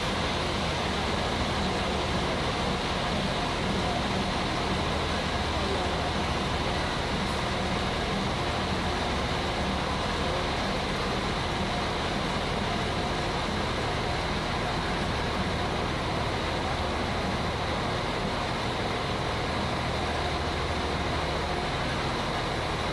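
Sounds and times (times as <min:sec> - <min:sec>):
diesel railcar engine idling: 0:00.0 - 0:22.9.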